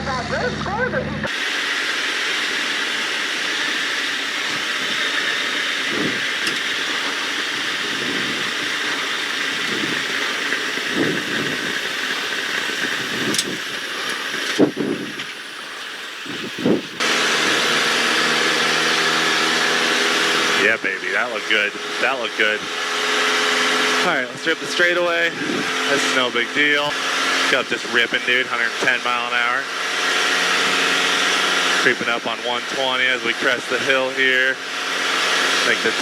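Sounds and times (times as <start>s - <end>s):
light aircraft engine: 0.0s - 36.0s.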